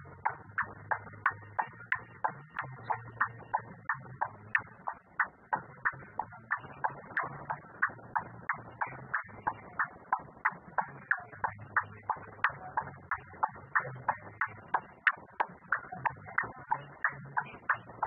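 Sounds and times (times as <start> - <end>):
faint low hum: 0.0 - 18.0
steady even clicking: 0.0 - 18.0.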